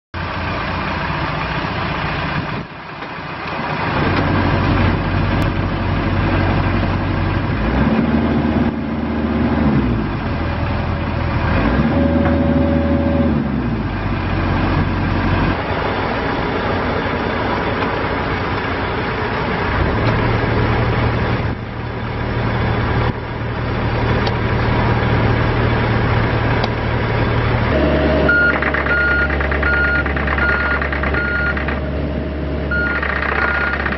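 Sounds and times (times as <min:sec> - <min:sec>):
excavator diesel engine running: 0:00.2 - 0:33.9.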